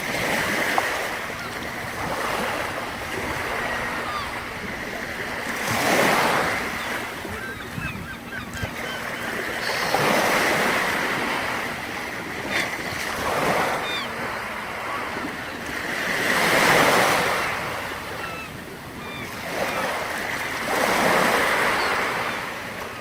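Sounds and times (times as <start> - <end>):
sea surf washing on shore: 0.0 - 23.0.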